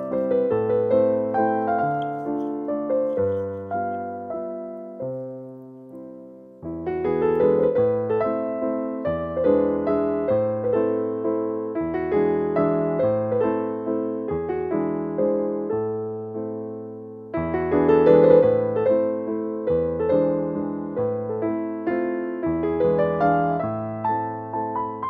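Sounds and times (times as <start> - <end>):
soft piano music: 0.0 - 25.0.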